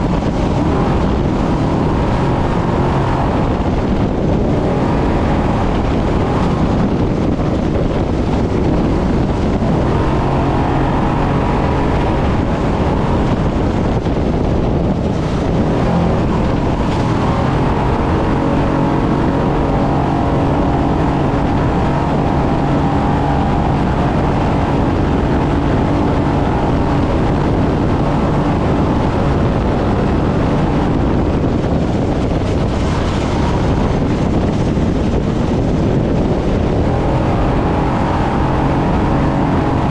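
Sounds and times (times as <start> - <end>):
rush of driving noise: 0.0 - 39.9
truck engine running hard: 0.0 - 39.9.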